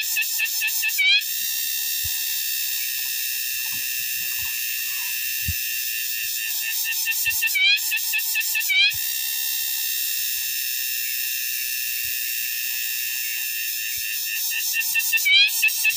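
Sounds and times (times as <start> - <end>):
cicadas buzzing: 0.0 - 15.9
fast pulsing insect call: 0.0 - 15.9.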